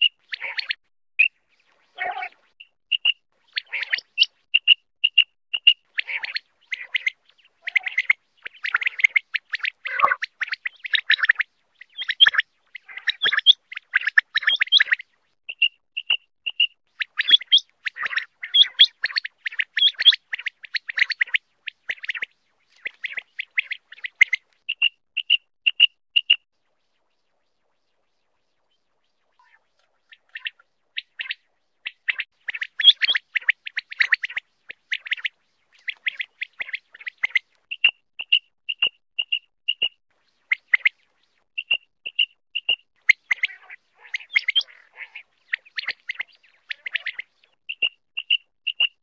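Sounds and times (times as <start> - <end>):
quail calling: 0.0 - 0.8, 1.9 - 26.4, 29.4 - 38.4, 41.6 - 48.9.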